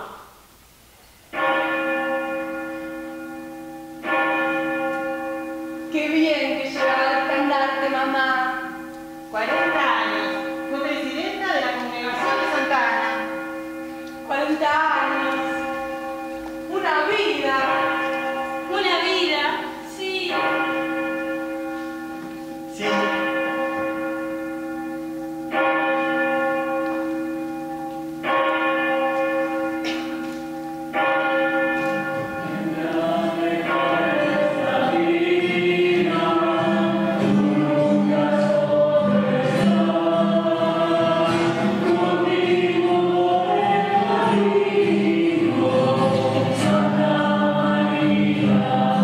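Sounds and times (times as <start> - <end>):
bell ringing: 1.4 - 49.0.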